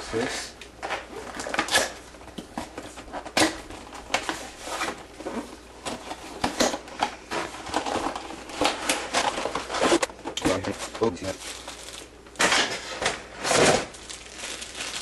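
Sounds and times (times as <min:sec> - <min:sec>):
cardboard packaging rustling: 0:00.9 - 0:15.0.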